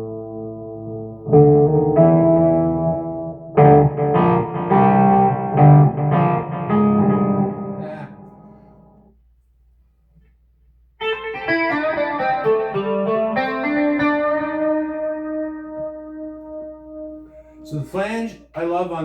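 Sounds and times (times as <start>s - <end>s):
electric guitar notes and chords: 0.0s - 9.1s, 11.0s - 17.6s.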